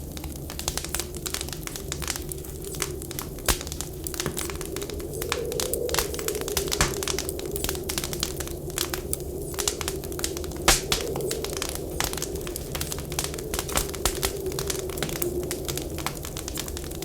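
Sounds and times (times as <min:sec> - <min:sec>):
howling blizzard wind: 0:00.0 - 0:17.0
wood fire crackling: 0:00.0 - 0:17.0.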